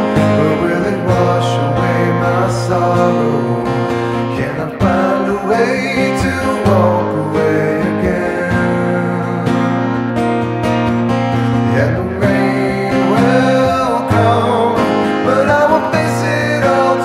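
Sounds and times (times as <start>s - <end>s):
person singing: 0.0s - 10.2s, 11.6s - 17.0s
acoustic guitar strummed: 0.0s - 17.0s.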